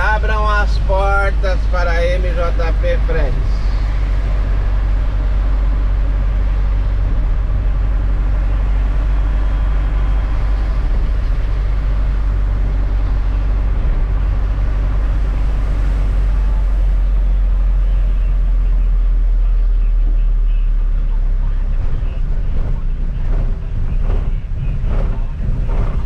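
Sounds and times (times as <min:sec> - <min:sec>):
road noise: 0:00.0 - 0:26.0
truck engine drone: 0:00.0 - 0:26.0.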